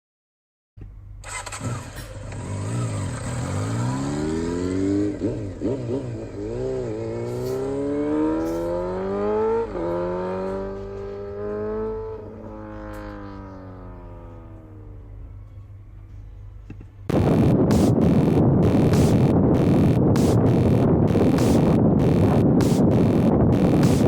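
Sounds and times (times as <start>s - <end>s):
motorcycle engine revving: 1.2s - 15.0s, 17.1s - 24.0s.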